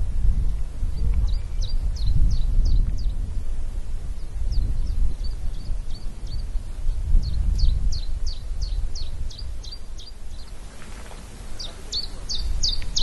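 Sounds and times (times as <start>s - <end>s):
wind rumble on microphone: 0.0s - 13.0s
small bird chirping: 0.4s - 3.3s, 4.2s - 13.0s.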